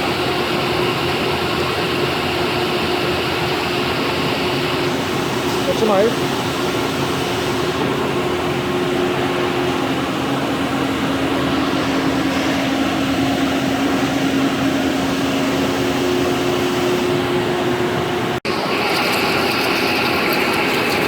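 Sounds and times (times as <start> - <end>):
lathe running: 0.1 - 21.0.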